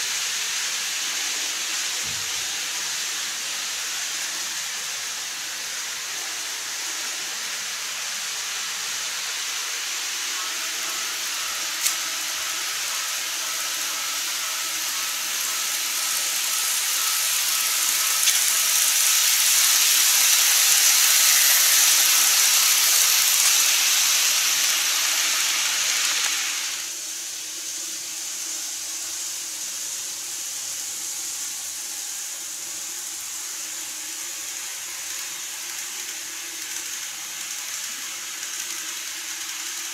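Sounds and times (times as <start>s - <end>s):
faint motor whine: 0.0s - 39.9s
model train wheels hissing on rails: 0.0s - 39.9s.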